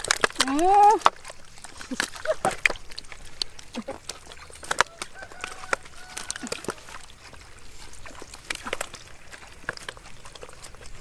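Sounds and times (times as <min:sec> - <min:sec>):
fish flopping on mud: 0:00.0 - 0:11.0
hands slapping mud: 0:00.0 - 0:11.0
wet mud squelching: 0:00.0 - 0:11.0.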